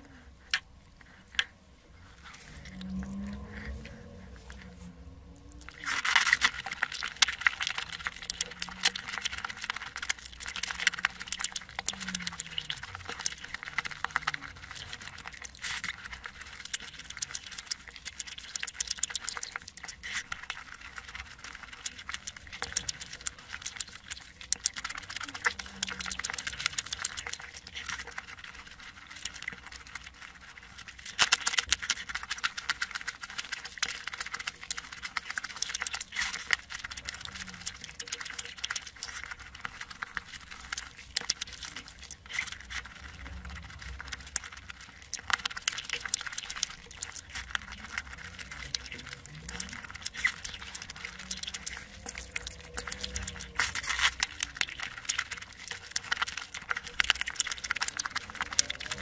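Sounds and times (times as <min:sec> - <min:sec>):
chewing: 0:00.0 - 0:59.0
fingers squishing food: 0:00.0 - 0:59.0.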